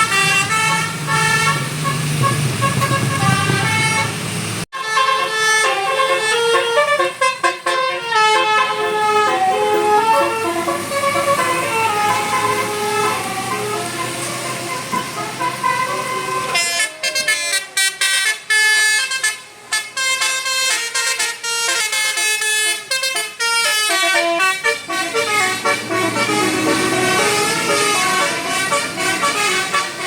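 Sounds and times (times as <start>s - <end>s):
bus musical horn melody: 0.0s - 30.0s.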